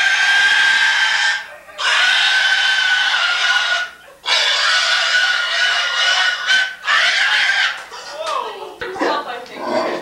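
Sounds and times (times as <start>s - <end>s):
pig squealing: 0.0s - 8.2s, 9.0s - 10.0s.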